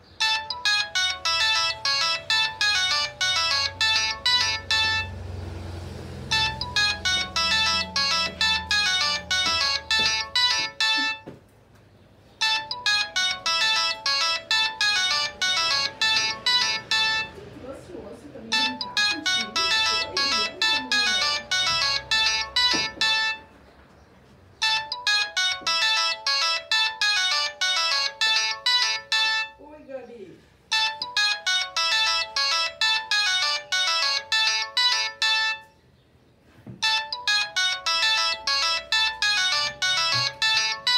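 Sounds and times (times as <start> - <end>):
cell phone ringtone melody: 0.0 - 11.4, 12.3 - 23.7, 24.5 - 29.9, 30.6 - 36.0, 36.6 - 40.9.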